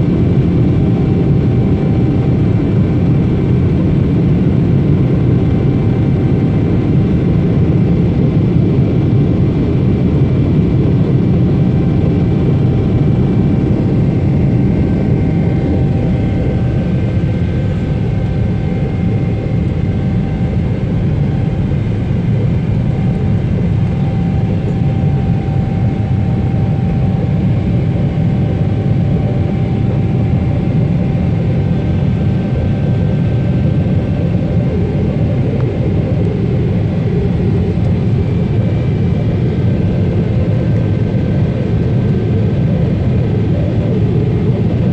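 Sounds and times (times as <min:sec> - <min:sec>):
airliner cabin engine rumble: 0:00.0 - 0:44.9
faint whining tones: 0:08.0 - 0:44.9.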